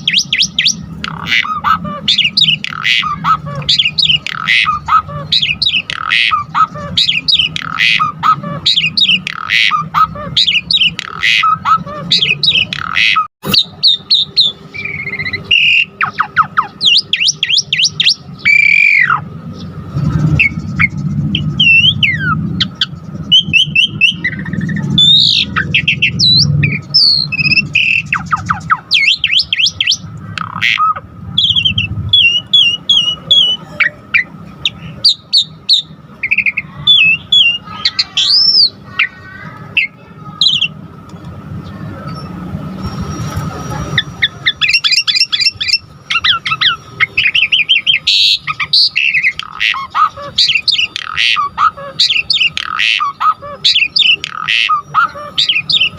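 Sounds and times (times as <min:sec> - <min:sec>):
low hum: 0:00.0 - 0:52.8
starling singing whistles and trills: 0:00.0 - 0:55.9.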